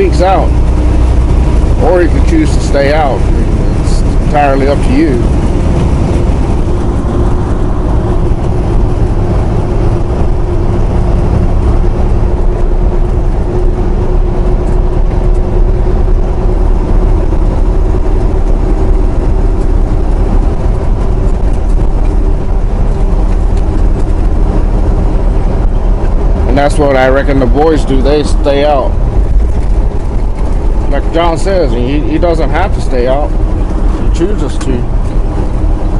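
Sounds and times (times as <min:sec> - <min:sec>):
diesel truck engine rumble: 0:00.0 - 0:35.9
road noise inside cab: 0:00.0 - 0:35.9.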